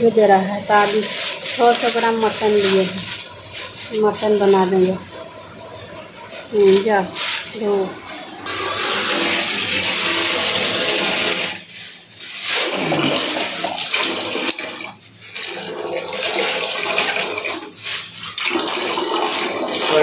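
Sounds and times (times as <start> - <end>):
water gushing into metal pot: 0.0 - 20.0.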